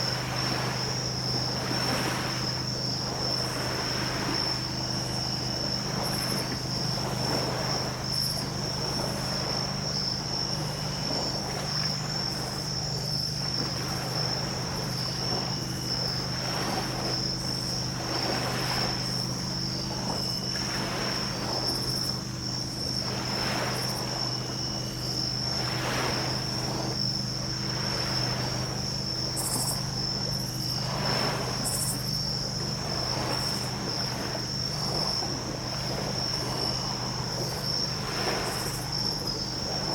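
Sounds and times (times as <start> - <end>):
insects trilling: 0.0 - 39.9
small waves washing onto beach: 0.0 - 39.9
steady low hum: 0.0 - 39.9.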